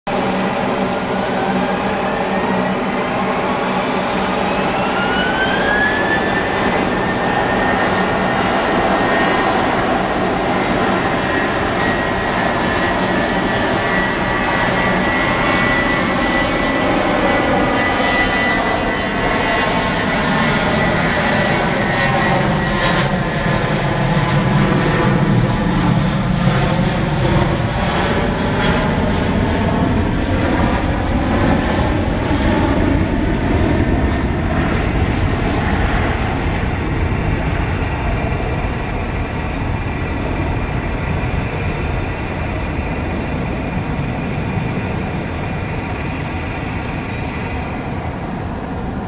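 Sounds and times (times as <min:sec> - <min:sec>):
jet engine roar at takeoff: 0:00.1 - 0:49.0.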